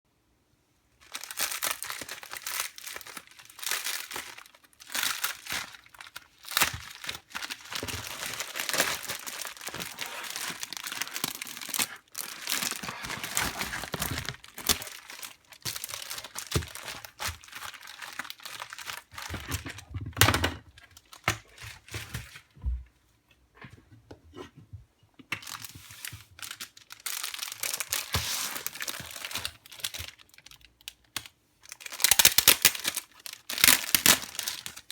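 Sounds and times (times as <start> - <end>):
packaging crinkling and tearing: 1.0 - 20.0, 25.4 - 34.9.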